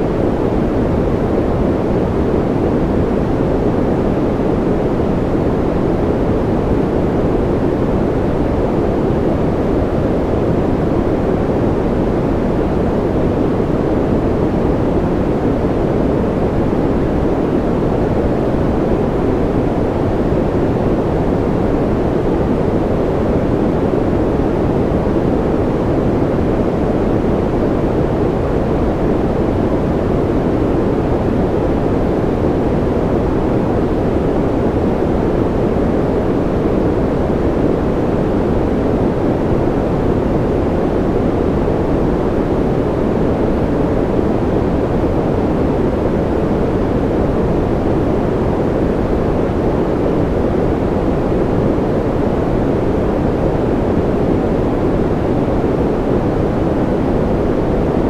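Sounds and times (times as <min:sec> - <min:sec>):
deep muffled steady noise: 0:00.0 - 0:58.0.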